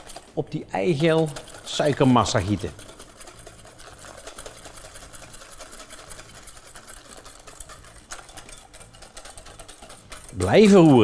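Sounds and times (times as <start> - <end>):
wire whisk rattling in steel bowl: 0.0 - 11.0.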